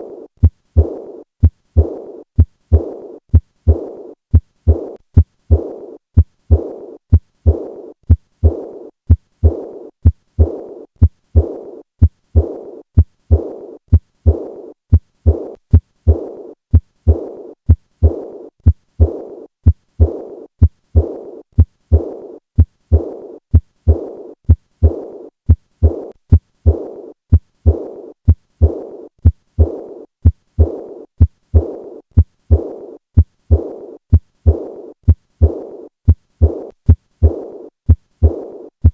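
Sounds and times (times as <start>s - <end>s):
heartbeat thuds: 0.0s - 38.9s
hissing heart murmur: 0.8s - 38.9s.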